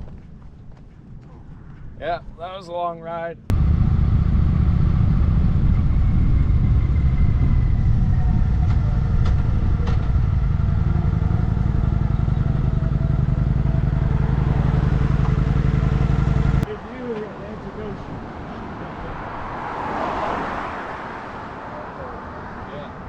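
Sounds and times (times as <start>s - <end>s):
wind rushing over microphone: 3.4s - 16.7s, 17.6s - 23.0s
faint road and drivetrain tones: 3.4s - 23.0s.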